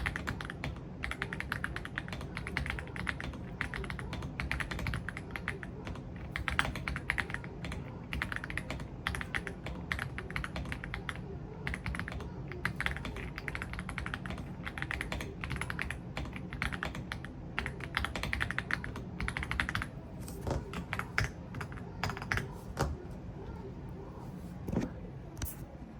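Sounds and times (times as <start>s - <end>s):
mechanical keyboard typing: 0.0s - 23.0s.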